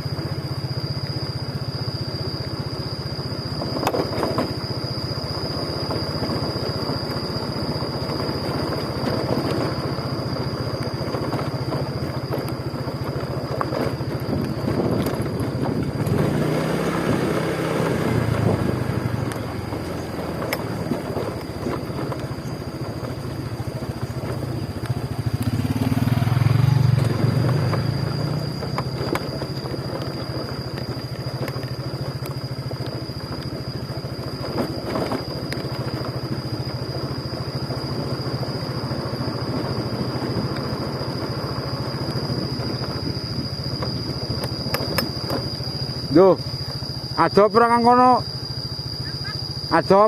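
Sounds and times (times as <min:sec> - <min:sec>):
motorcycle engine running: 0:00.0 - 0:50.0
road noise: 0:00.0 - 0:50.0.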